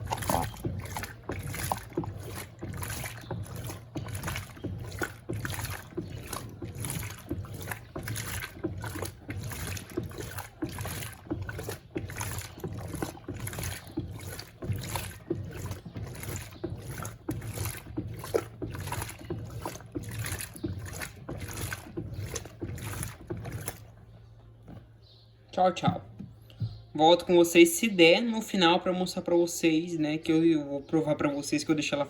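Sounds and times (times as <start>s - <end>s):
motor hum: 0.0s - 26.9s
washing machine sloshing: 0.0s - 32.0s.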